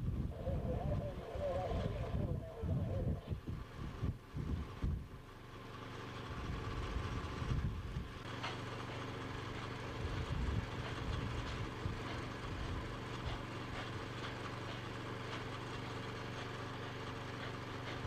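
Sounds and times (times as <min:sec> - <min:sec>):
miniature train low hum: 0:00.0 - 0:18.0.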